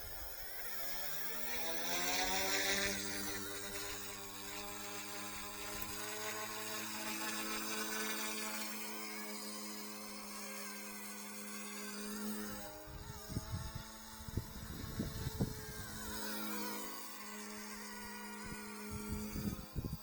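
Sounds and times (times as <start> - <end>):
helicopter motors buzzing whine: 0.0 - 20.0.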